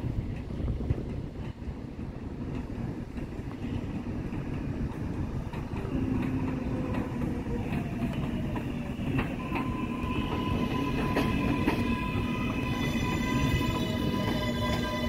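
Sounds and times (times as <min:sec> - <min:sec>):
subway train rumble: 0:00.0 - 0:15.0
wheels clicking over rail joints: 0:00.1 - 0:15.0.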